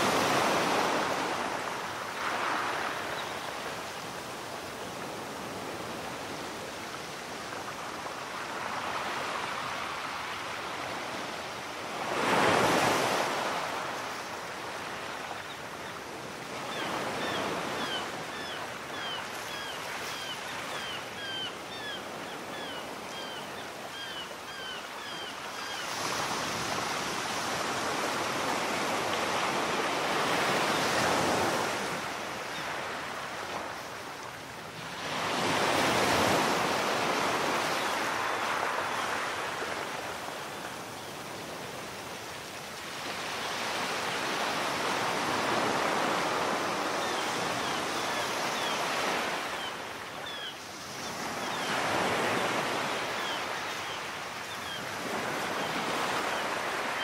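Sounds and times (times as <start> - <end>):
small waves breaking on sand: 0.0 - 21.0, 24.8 - 57.0.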